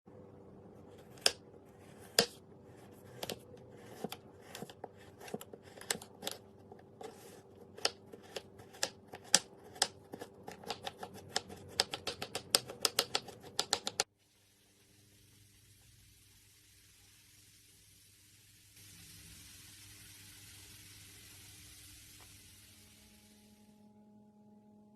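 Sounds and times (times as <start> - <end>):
faint steady hum: 0.1 - 24.9.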